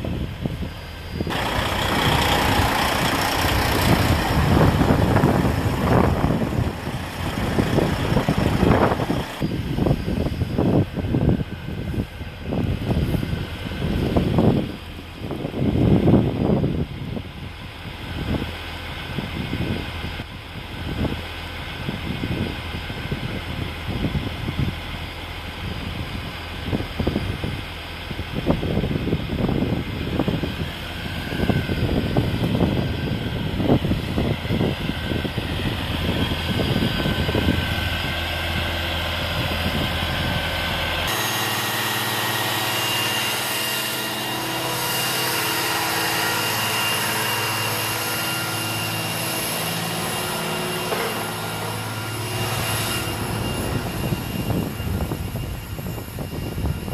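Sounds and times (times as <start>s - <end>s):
low engine hum: 0.0s - 56.9s.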